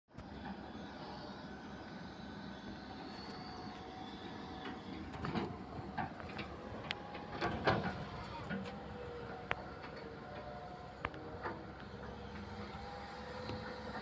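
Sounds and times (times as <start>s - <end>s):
excavator diesel engine running: 0.2s - 14.0s.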